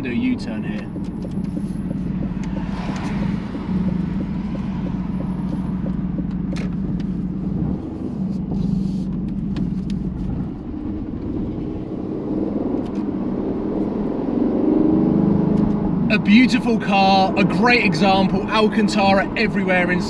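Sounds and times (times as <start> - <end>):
car engine through loud exhaust: 0.0 - 20.0.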